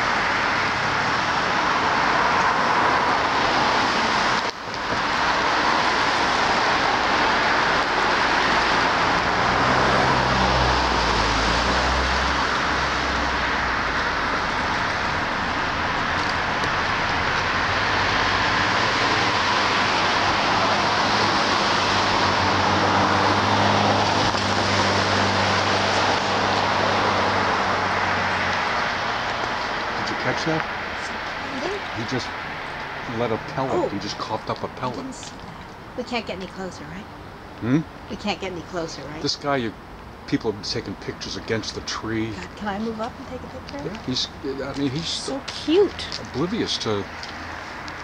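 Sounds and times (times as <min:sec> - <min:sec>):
road traffic noise: 0:00.0 - 0:48.0.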